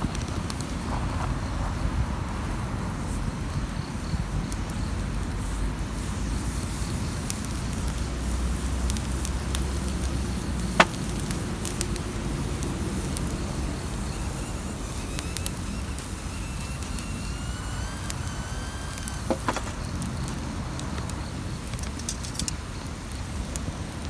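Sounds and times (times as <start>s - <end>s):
sharp pops from fire: 0.0s - 1.9s, 4.4s - 24.0s
wood bonfire crackling: 0.0s - 24.0s.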